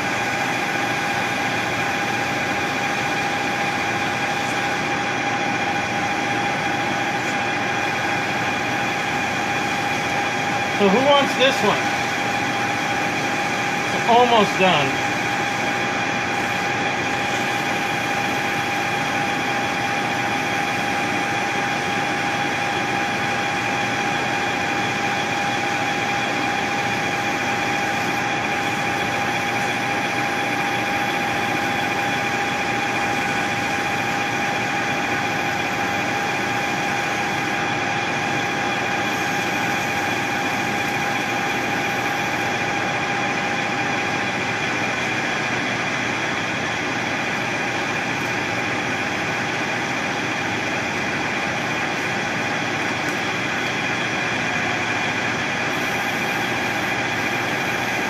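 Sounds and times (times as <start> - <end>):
machine tool whining: 0.0 - 58.0.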